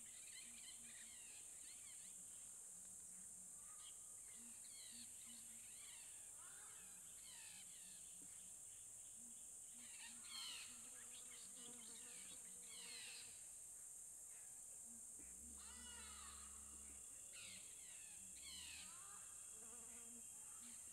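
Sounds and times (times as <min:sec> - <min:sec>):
high insect drone: 0:00.0 - 0:20.9.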